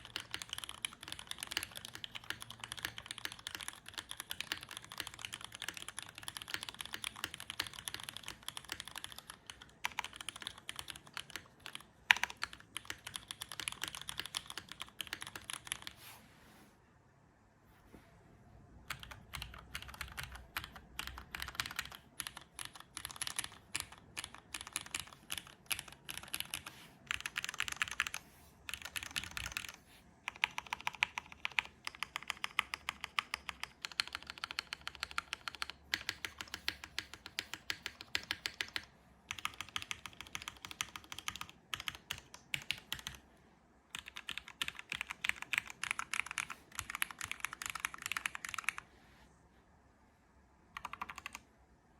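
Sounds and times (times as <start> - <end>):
mechanical keyboard typing: 0.0 - 16.0, 18.8 - 43.2, 43.9 - 48.8, 50.8 - 51.5.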